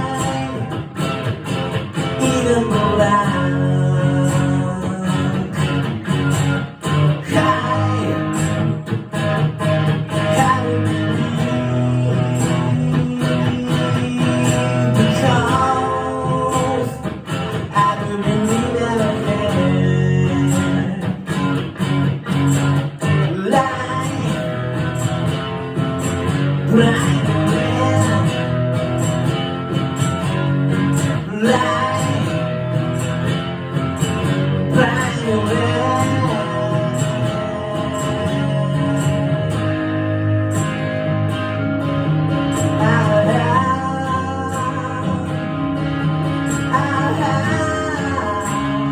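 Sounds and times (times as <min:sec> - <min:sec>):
person singing: 0:00.0 - 0:21.3, 0:23.0 - 0:33.4, 0:34.0 - 0:41.0, 0:42.4 - 0:48.9
guitar strumming: 0:00.0 - 0:48.9.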